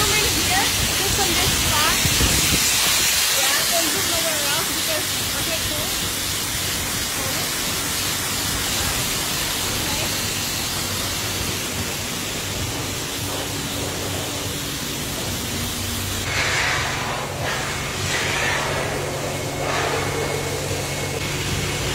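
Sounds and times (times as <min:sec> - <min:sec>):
pressure washer water jet hissing: 0:00.0 - 0:21.9.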